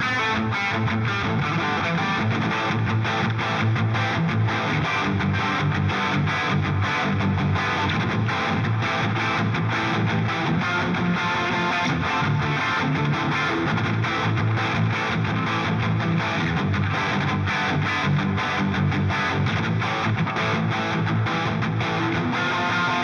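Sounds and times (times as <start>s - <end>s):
distorted electric guitar riff: 0.0s - 23.0s.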